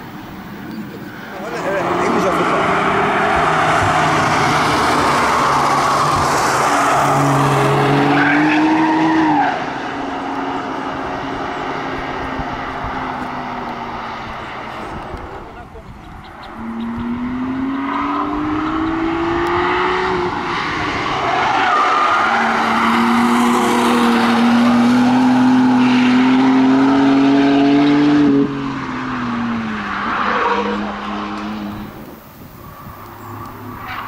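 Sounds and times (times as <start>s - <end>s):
sports car accelerating hard: 0.7s - 34.0s.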